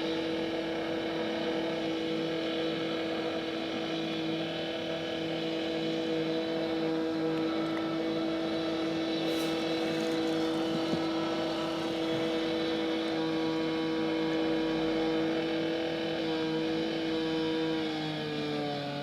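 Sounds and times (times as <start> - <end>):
machine engine running steadily: 0.0 - 19.0.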